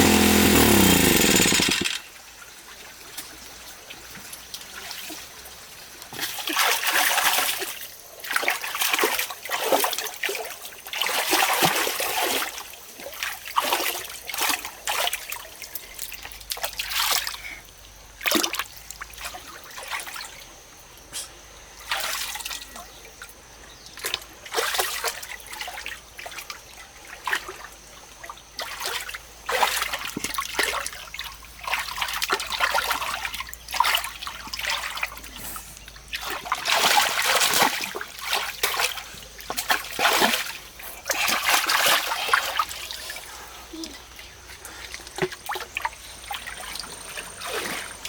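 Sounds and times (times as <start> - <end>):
water splashing and trickling: 2.7 - 17.5, 24.0 - 48.0.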